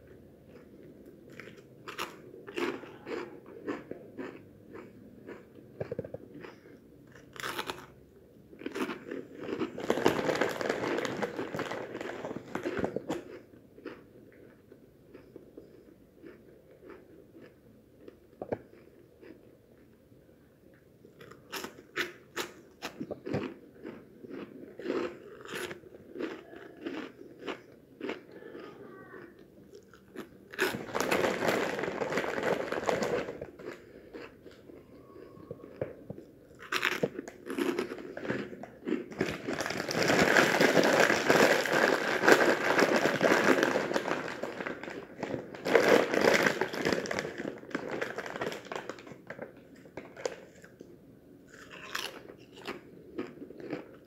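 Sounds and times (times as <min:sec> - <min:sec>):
crunching snacks: 0:00.5 - 0:19.5, 0:21.1 - 0:50.9, 0:51.5 - 0:54.0.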